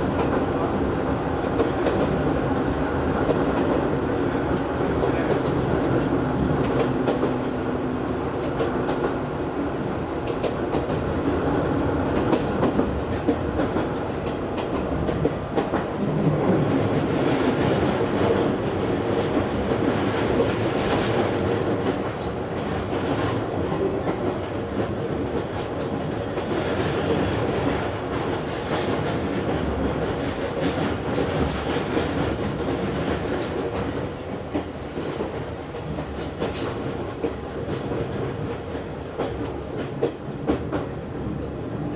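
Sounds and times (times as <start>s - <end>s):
electric train hum: 0.0s - 41.9s.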